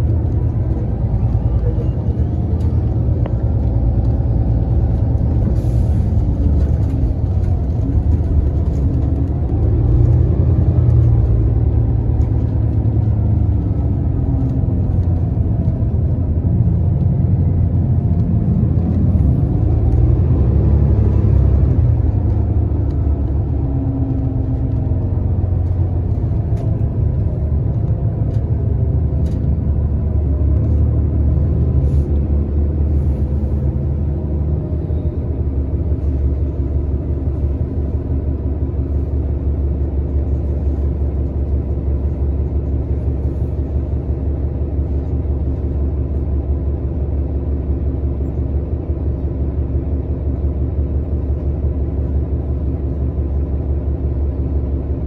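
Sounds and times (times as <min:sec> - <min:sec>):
bus cabin rumble: 0:00.0 - 0:55.0.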